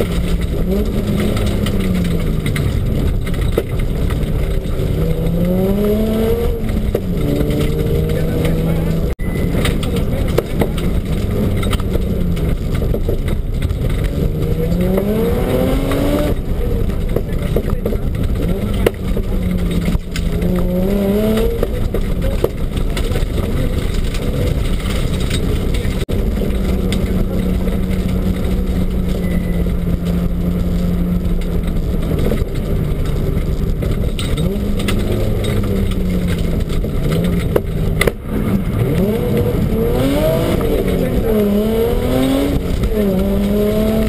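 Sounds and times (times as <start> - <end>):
rally car engine revving: 0.0 - 44.0
road and tyre noise: 0.0 - 44.0.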